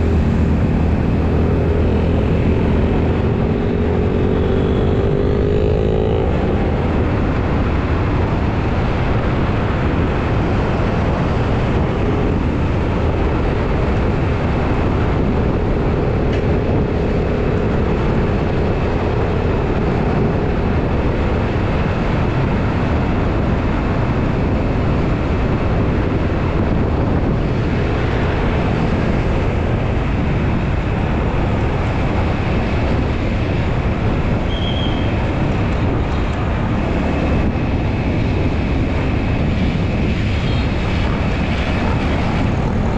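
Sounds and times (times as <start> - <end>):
scooter engine hum: 0.0 - 42.9
wind rush on microphone: 0.0 - 42.9.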